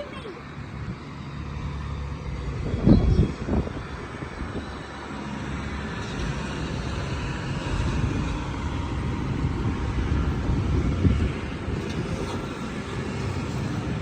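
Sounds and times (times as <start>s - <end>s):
road traffic roar: 0.0s - 14.0s.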